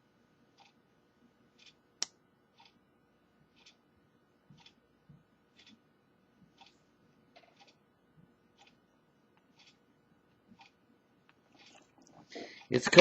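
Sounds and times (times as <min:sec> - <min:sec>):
faint clock ticking: 0:00.4 - 0:13.0.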